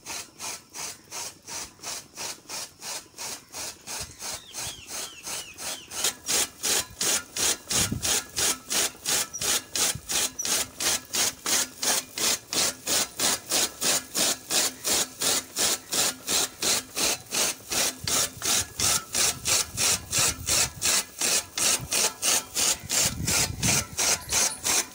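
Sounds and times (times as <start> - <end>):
chaff cutter chopping fodder: 0.0 - 24.9.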